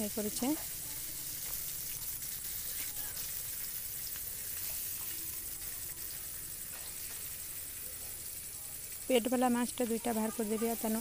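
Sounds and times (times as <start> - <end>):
fish frying in hot oil: 0.0 - 11.0
faint crackles: 0.1 - 11.0.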